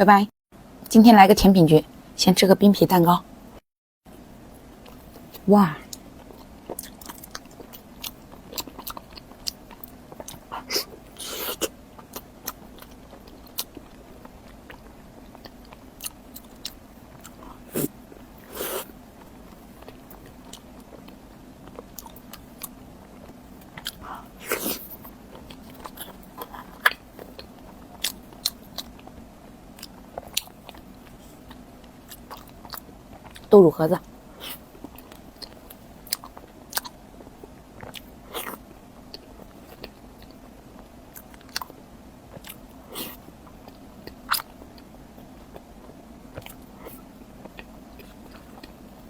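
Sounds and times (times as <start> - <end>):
person chewing: 4.8 - 33.5, 34.4 - 37.0, 37.8 - 40.5, 41.1 - 49.0.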